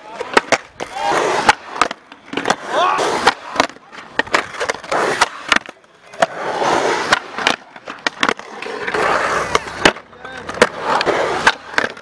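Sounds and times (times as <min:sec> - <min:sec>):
skateboard clacking: 0:00.0 - 0:12.0
skateboard wheels rolling on concrete: 0:00.0 - 0:12.0.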